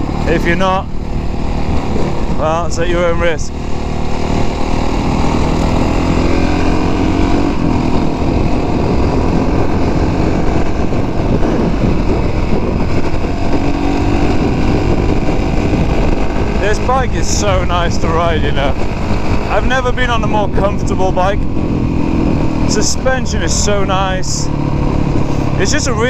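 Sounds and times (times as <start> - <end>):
motorbike engine running: 0.0 - 26.0.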